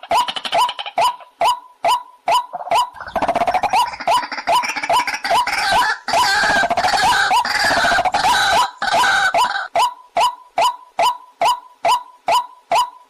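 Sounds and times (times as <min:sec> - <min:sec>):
bird calls upward-sweeping notes: 0:00.0 - 0:13.0.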